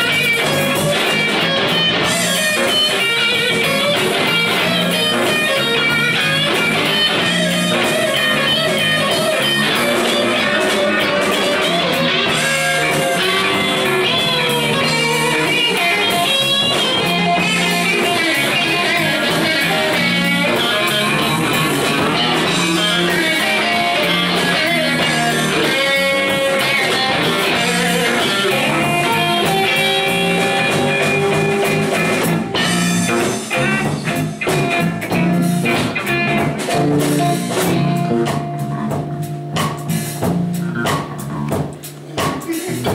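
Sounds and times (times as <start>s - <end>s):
drum kit: 0.0s - 42.9s
electric bass: 0.0s - 42.9s
electric guitar lead: 0.0s - 42.9s.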